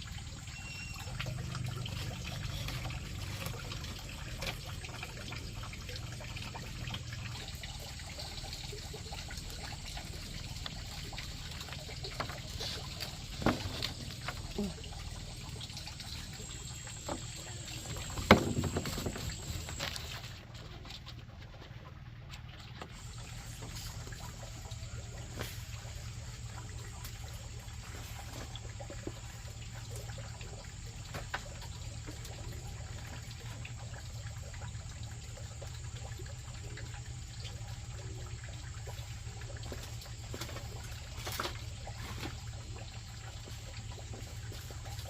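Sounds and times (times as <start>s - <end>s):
water trickling: 0.0s - 45.0s.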